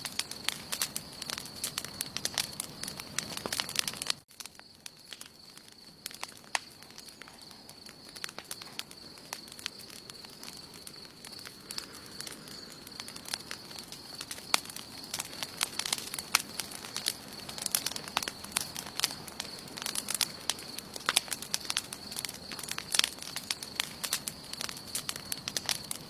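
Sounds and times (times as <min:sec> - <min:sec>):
campfire crackling with pops: 0:00.0 - 0:26.0
soft hiss of fire: 0:00.0 - 0:26.0.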